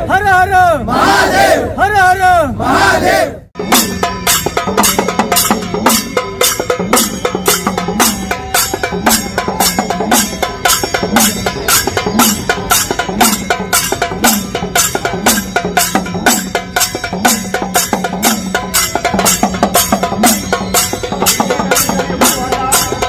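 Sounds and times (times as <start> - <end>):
drum troupe playing fast rhythm: 0.0 - 23.0
deep drum beats: 3.6 - 23.0.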